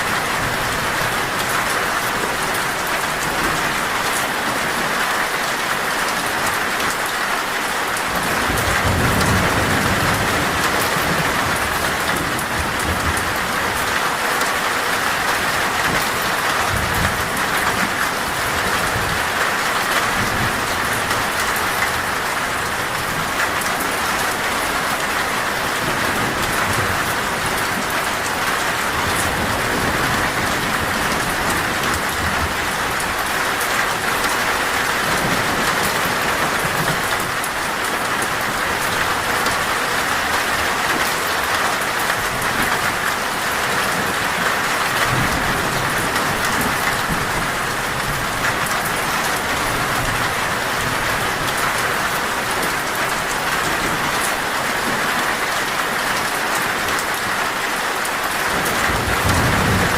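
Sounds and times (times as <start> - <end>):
heavy rain on a metal roof: 0.0 - 59.9.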